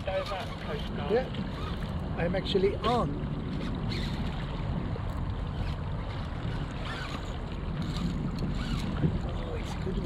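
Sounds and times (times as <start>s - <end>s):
water washing against hull: 0.0s - 10.0s
wind buffeting microphone: 0.0s - 10.0s.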